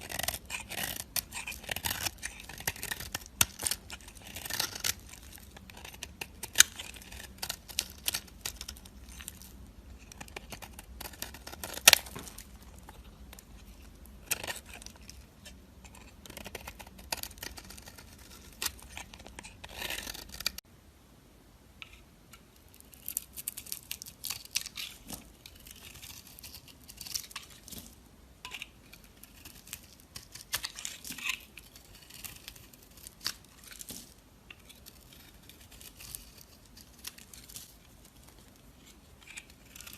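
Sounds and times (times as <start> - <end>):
knife cutting dry soap: 0.0 - 20.6, 22.9 - 39.9.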